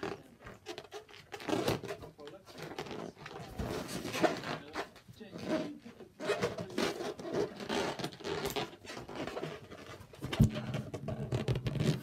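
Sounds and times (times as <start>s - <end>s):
rubbery balloon squeak: 0.0s - 12.0s.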